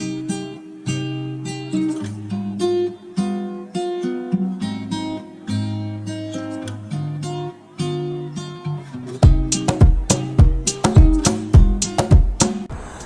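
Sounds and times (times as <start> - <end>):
acoustic guitar strumming chords: 0.0 - 12.7.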